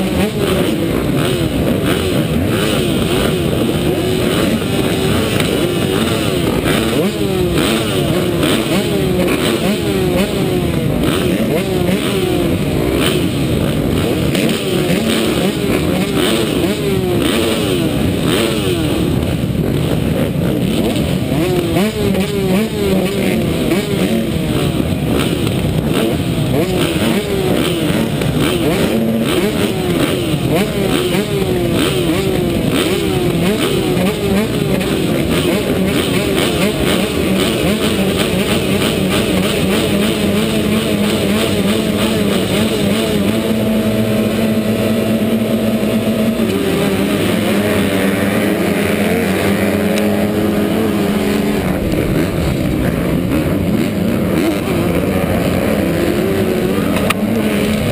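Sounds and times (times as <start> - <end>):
motocross bikes revving: 0.0 - 57.9.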